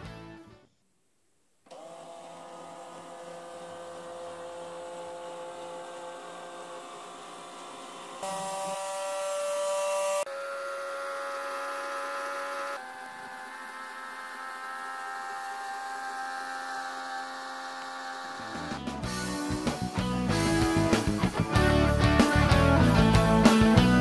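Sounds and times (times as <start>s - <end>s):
motorcycle engine revving: 3.0s - 24.0s.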